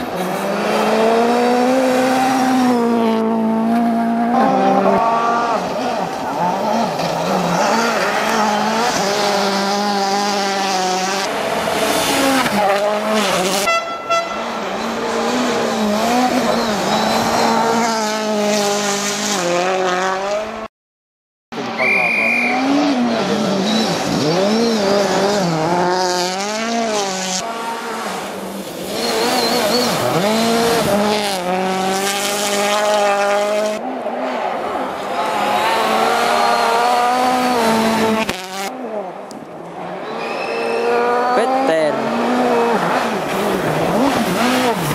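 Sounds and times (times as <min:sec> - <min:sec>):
rally cars racing past: 0:00.0 - 0:20.7, 0:21.6 - 0:44.9.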